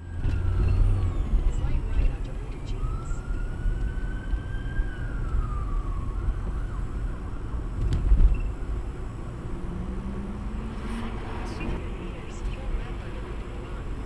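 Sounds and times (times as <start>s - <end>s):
siren wailing: 0.0s - 13.9s
vehicle and road rumble: 0.0s - 14.0s.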